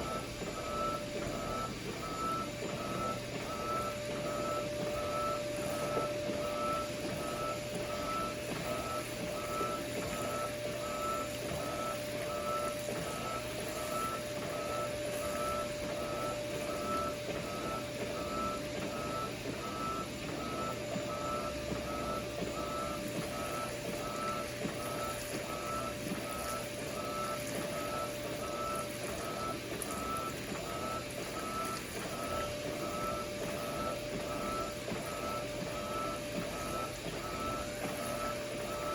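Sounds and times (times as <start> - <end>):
electronic alarm beeping: 0.0 - 38.9.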